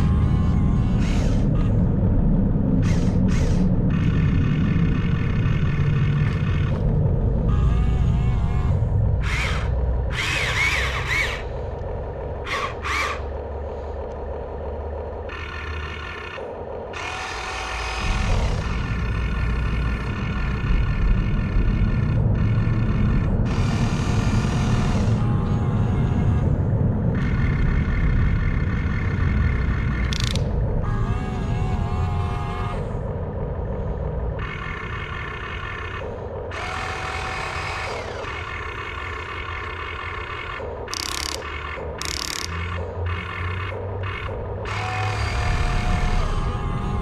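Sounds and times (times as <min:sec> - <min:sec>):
electric motors whining: 0:00.0 - 0:47.0.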